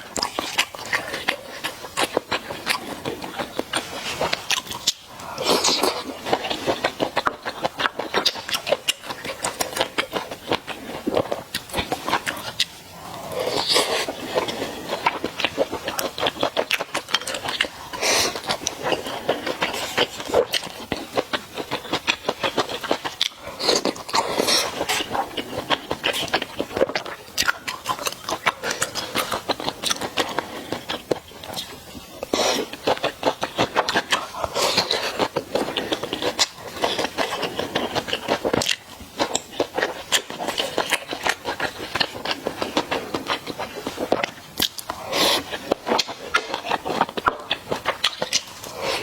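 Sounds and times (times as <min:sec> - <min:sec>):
chewing with wet mouth clicks: 0:00.1 - 0:49.0.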